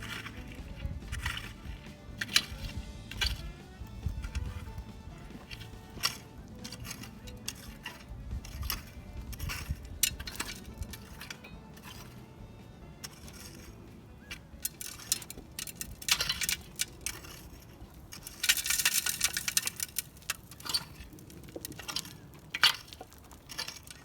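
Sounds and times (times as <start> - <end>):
shovel blade clinking on stones: 0.0 - 12.2, 13.0 - 24.0
shovel scraping rocky dirt: 0.0 - 24.0.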